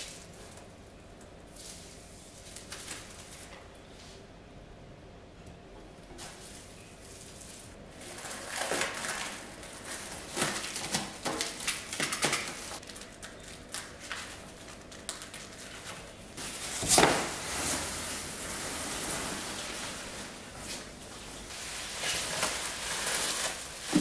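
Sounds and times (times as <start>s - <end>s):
plastic wrap crinkling: 1.2s - 3.7s, 6.1s - 24.0s.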